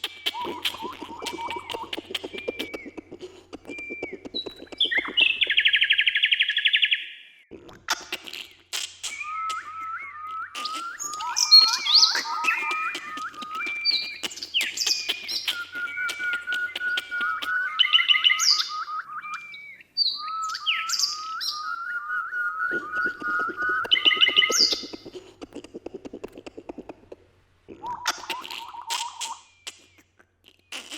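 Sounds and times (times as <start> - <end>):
birds chirping and trilling: 0.0 - 27.1, 27.7 - 30.8
bird repeating rising notes: 0.0 - 30.0.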